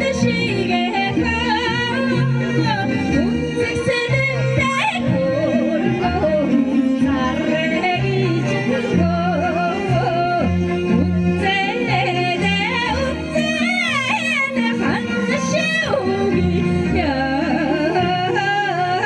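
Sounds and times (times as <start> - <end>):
instrumental accompaniment: 0.0 - 19.0
person singing: 0.0 - 19.0
sustained bass notes: 0.0 - 19.0.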